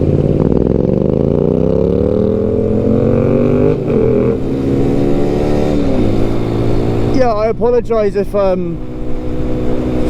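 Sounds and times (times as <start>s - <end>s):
motorcycle engine accelerating: 0.0s - 7.9s, 8.5s - 10.0s.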